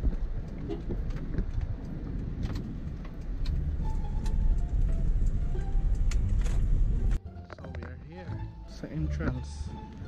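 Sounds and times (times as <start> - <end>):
vehicle rumbling on rough road: 0.0 - 10.0.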